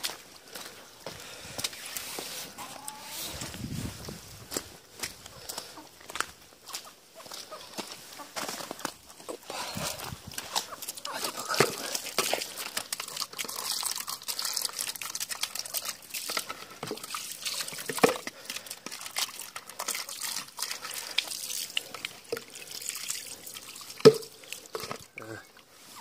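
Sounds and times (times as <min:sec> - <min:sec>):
wet snow pattering and dripping: 0:03.2 - 0:26.0.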